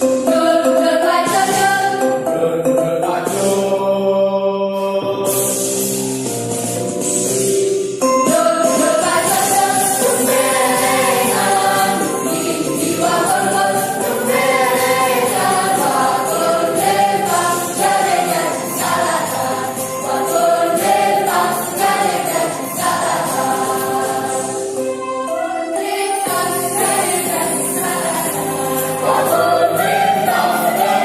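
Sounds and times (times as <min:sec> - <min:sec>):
musical accompaniment: 0:00.0 - 0:31.0
choir singing in parts: 0:00.1 - 0:05.7, 0:08.3 - 0:31.0.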